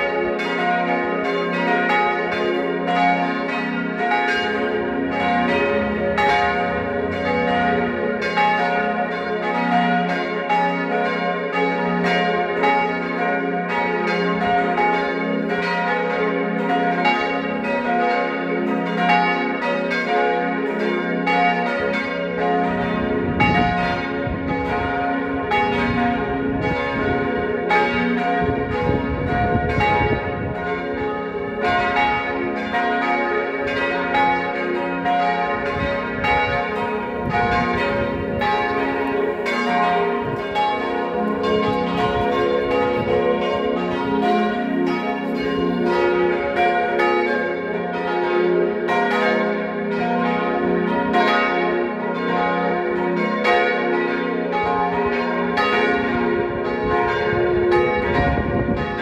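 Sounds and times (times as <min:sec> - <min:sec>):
church bells ringing in a peal: 0:00.0 - 0:59.0.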